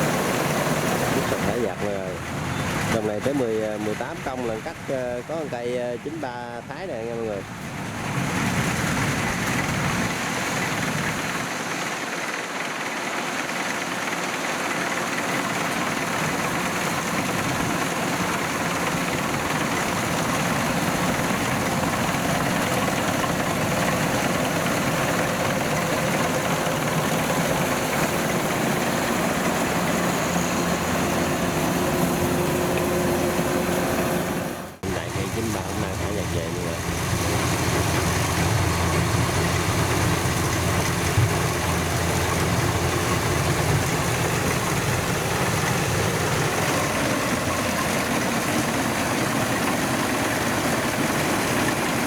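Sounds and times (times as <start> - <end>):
combine harvester running: 0.0 - 52.0.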